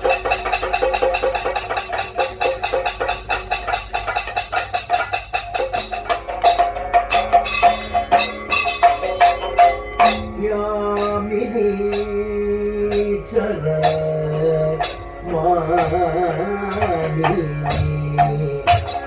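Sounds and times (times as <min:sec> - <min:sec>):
rapid percussion strokes: 0:00.0 - 0:19.0
ringing metallic percussion: 0:00.0 - 0:19.0.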